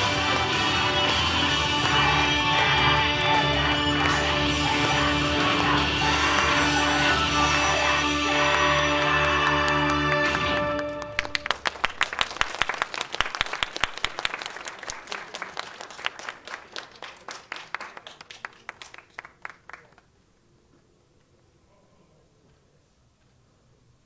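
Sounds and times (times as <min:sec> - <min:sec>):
audience clapping: 0:00.0 - 0:20.2.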